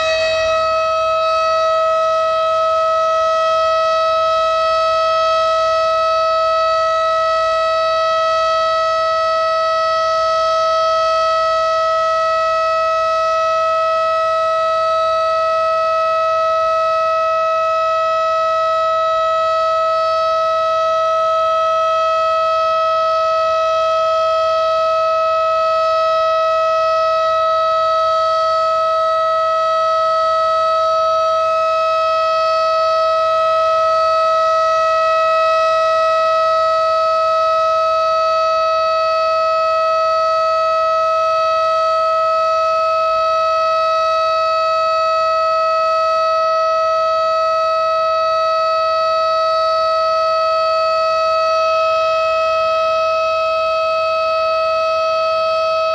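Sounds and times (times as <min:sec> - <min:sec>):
warning siren steady tone: 0:00.0 - 0:55.9.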